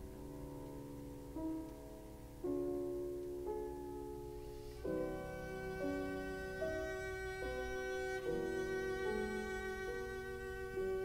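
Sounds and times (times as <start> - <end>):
slow instrumental music with chords: 0.0 - 11.0.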